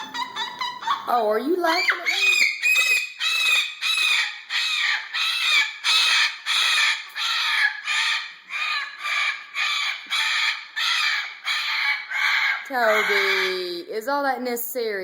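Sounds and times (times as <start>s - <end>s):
cockatoo screaming: 1.6s - 13.8s.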